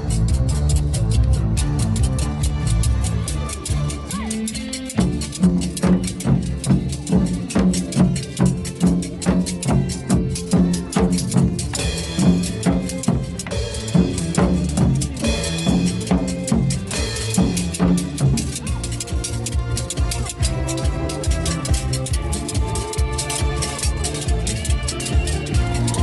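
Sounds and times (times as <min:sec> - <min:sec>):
backing music with beat: 0:00.0 - 0:26.0.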